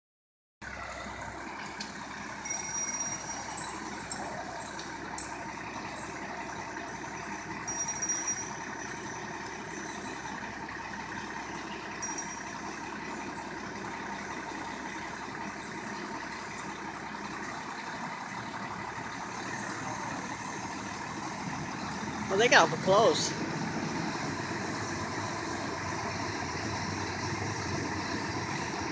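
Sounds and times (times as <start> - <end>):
fire engine running: 0.6 - 28.9.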